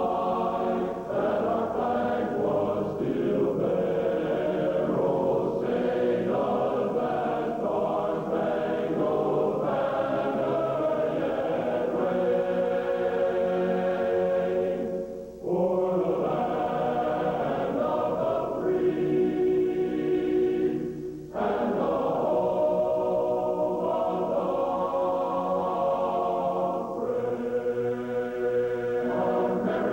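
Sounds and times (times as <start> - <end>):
muffled choir singing: 0.0 - 29.9.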